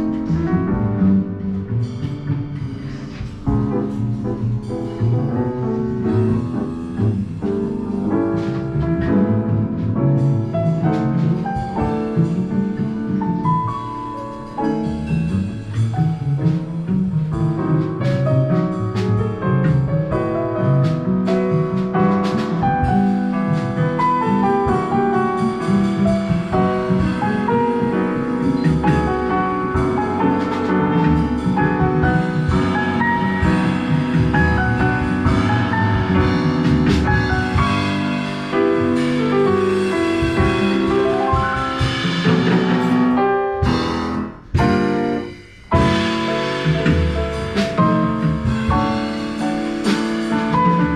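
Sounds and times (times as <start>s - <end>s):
drums: 0.0s - 50.9s
grand piano: 0.0s - 50.9s
upright bass: 0.0s - 50.9s.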